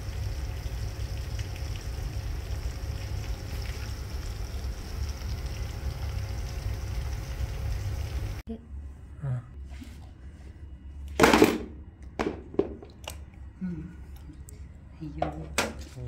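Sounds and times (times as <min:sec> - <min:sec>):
gas burner rumbling and hissing: 0:00.0 - 0:16.0.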